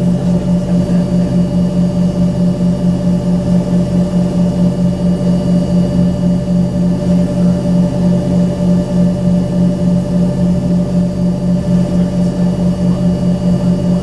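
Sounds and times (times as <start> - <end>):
jet engine cabin drone: 0.0 - 14.0.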